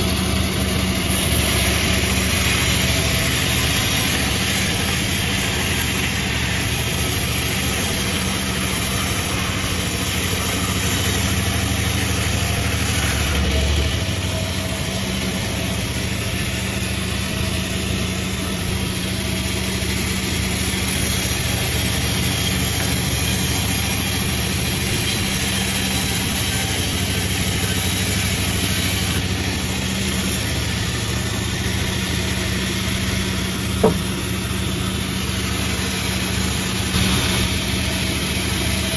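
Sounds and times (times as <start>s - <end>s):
saw blades hissing: 0.0s - 38.9s
sawmill motor hum: 0.0s - 38.9s.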